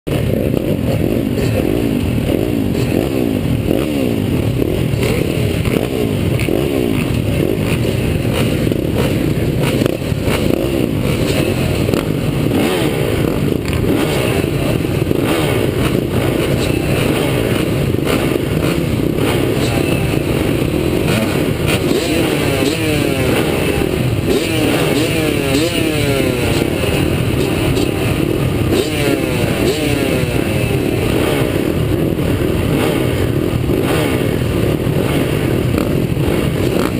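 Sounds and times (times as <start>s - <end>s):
motocross bikes revving: 0.1s - 36.9s.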